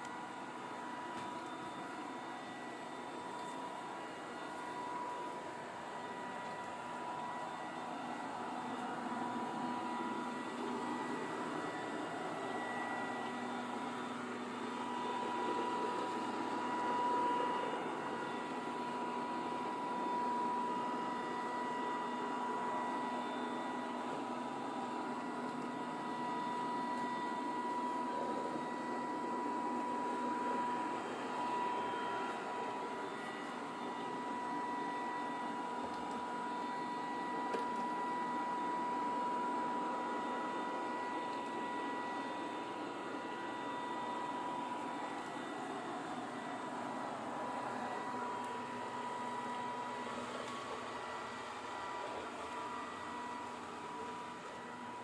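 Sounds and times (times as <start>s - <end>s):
robotic vacuum cleaner running: 0.0s - 55.0s.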